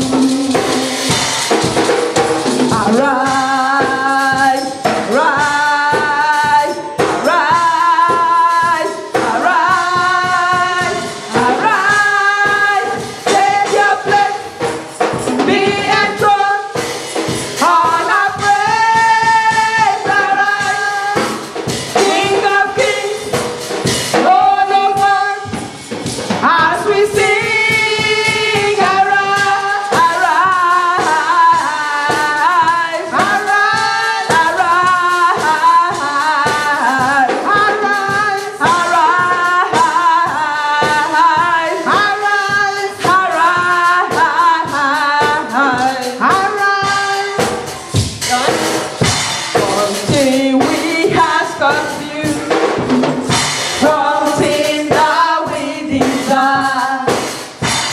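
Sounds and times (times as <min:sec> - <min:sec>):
choir singing gospel song: 0:00.0 - 0:57.9
drums beating: 0:00.0 - 0:57.9
tambourine: 0:00.0 - 0:57.9.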